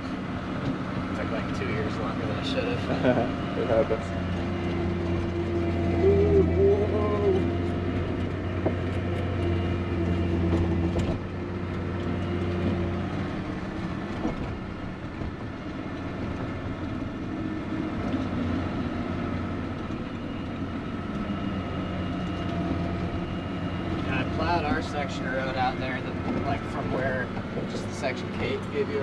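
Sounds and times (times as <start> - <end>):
snowcat engine droning: 0.0 - 29.0.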